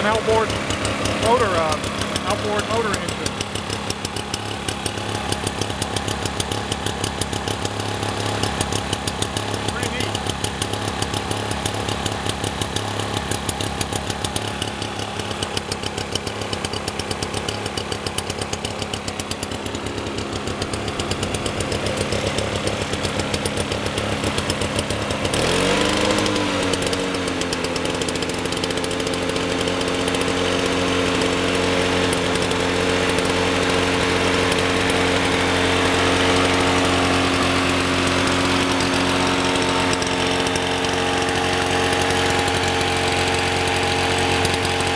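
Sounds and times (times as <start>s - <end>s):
lawn mower engine running: 0.0s - 44.9s.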